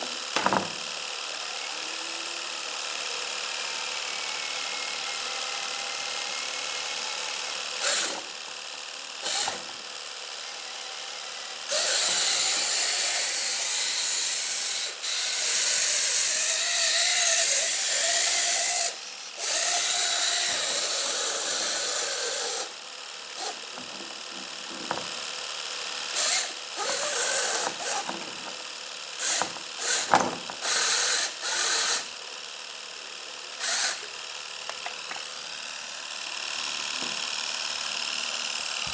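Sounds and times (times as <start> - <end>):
small motor running in bursts: 0.0 - 38.9.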